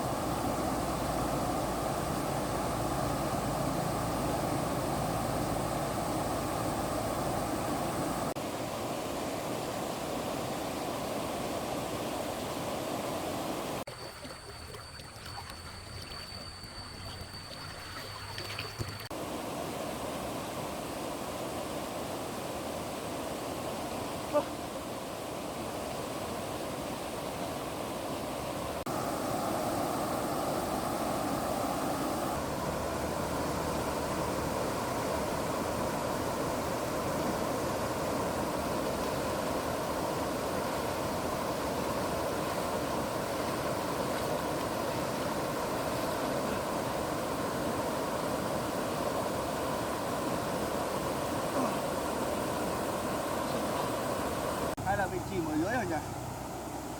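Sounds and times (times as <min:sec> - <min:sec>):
faint high whine: 0:00.0 - 0:56.9
stream water rushing: 0:00.0 - 0:56.9.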